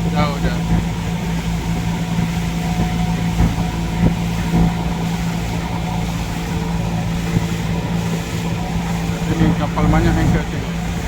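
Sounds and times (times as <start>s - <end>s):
boat engine running: 0.0s - 11.0s
wind on microphone: 0.0s - 11.0s.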